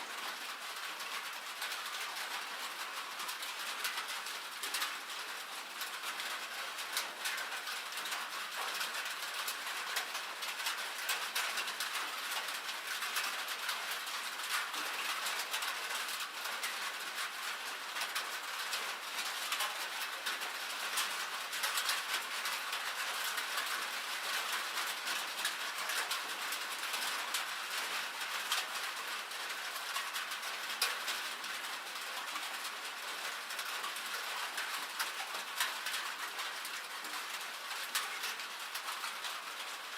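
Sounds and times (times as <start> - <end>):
rain and hail on metal roof: 0.0 - 39.9.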